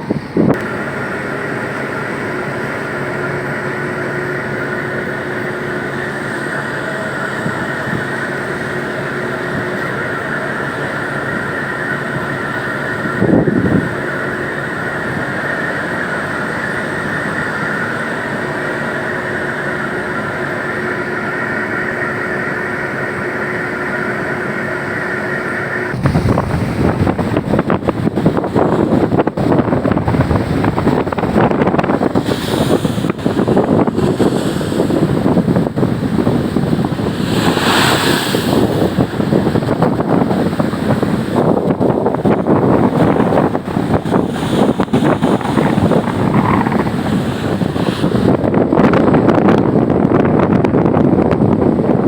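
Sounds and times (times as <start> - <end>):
rough sea waves: 0.0 - 52.0
wind gusting on microphone: 0.0 - 52.0.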